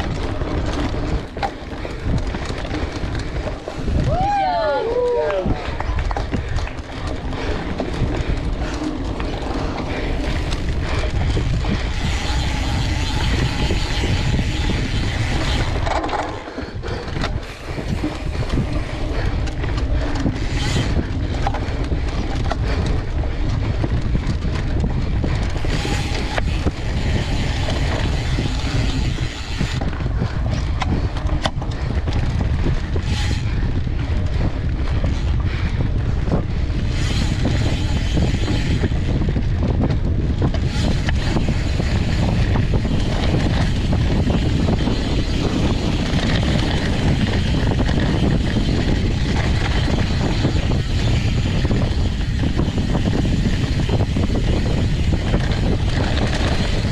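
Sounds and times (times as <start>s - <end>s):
bike rattling over bumps: 0.0s - 56.9s
tyres humming on dirt: 0.0s - 56.9s
wind buffeting microphone: 0.0s - 56.9s.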